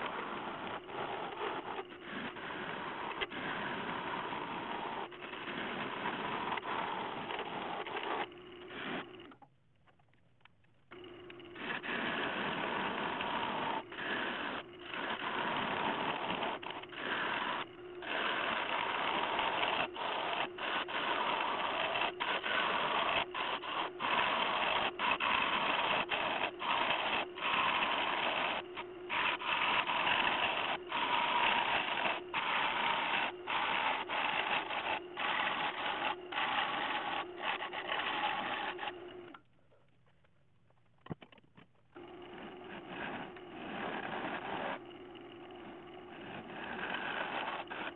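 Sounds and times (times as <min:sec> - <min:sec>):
gouge cutting wood on lathe: 0:00.0 - 0:09.4, 0:10.9 - 0:39.4, 0:42.0 - 0:47.9.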